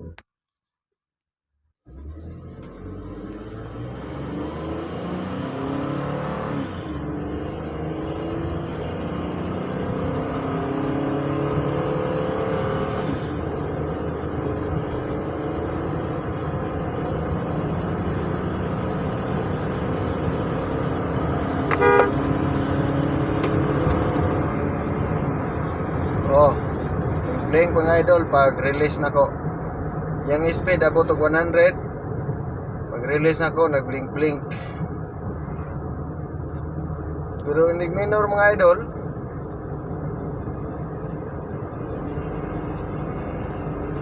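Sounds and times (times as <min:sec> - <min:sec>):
road and tyre noise: 0:01.8 - 0:44.0
van engine at full throttle: 0:01.8 - 0:44.0.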